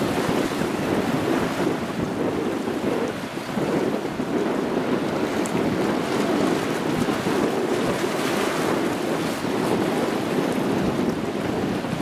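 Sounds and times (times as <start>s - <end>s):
choppy sea water sloshing: 0.0s - 12.0s
wind on microphone: 0.0s - 12.0s.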